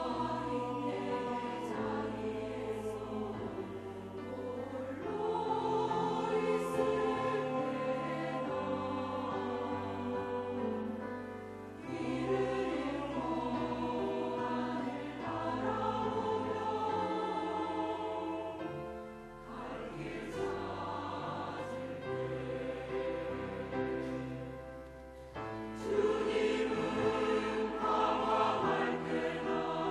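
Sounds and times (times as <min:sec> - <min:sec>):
church choir singing: 0:00.0 - 0:29.9.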